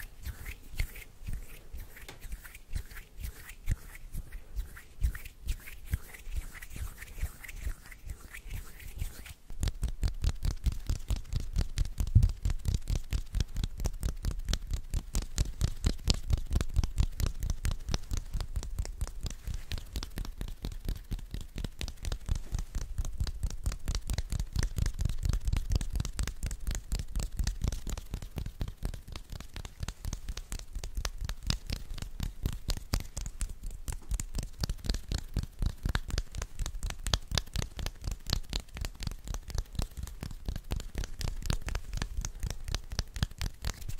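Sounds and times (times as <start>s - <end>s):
hands stroking a microphone: 0.0s - 43.9s.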